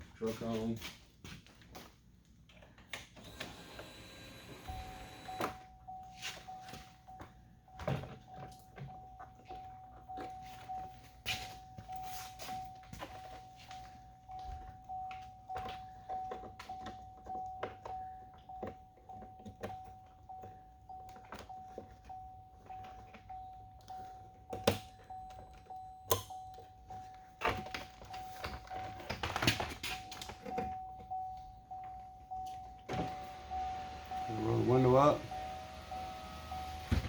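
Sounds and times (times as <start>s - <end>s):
car warning chime: 3.3s - 37.0s.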